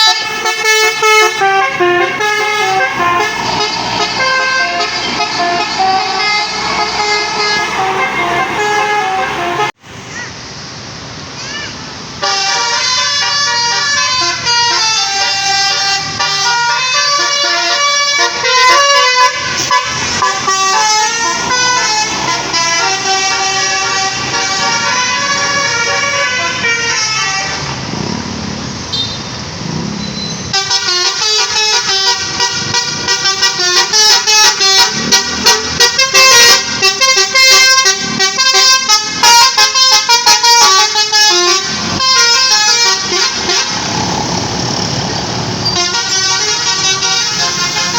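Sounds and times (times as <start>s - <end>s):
bus horn playing a tune: 0.0s - 9.8s, 12.2s - 27.8s, 30.5s - 44.1s, 45.6s - 47.9s.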